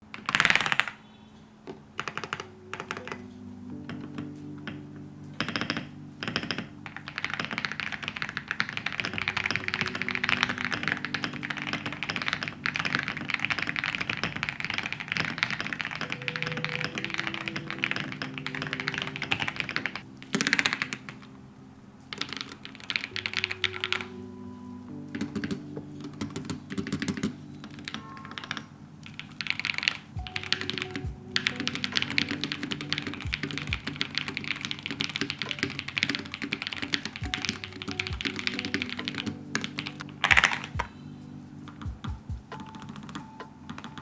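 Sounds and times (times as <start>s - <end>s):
keyboard typing: 0.0s - 21.4s, 22.1s - 44.0s
soft background music: 0.2s - 44.0s.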